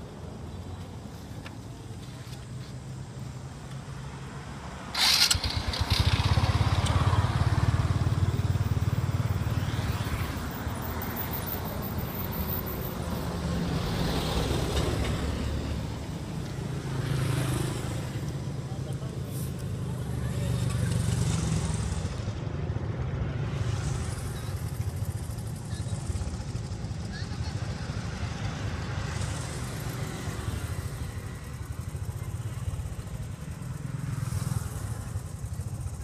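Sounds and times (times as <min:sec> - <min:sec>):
vehicle engine rumbling: 0:00.0 - 0:36.0.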